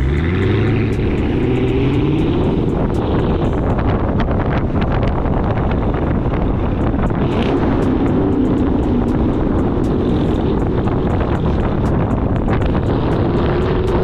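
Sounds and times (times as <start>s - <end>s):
car exhaust rumble: 0.0s - 14.0s
road and wind noise: 0.0s - 14.0s.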